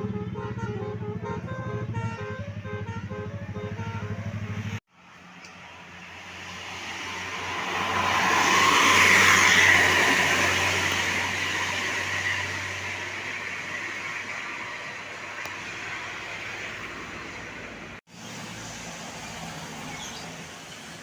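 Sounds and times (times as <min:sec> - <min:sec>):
road vehicle passing by: 0:00.0 - 0:21.0.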